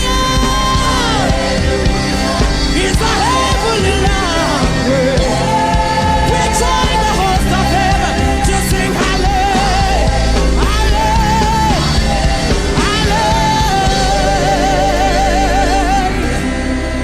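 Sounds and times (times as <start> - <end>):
praise band playing: 0.0 - 17.0
singers holding long notes: 0.0 - 17.0.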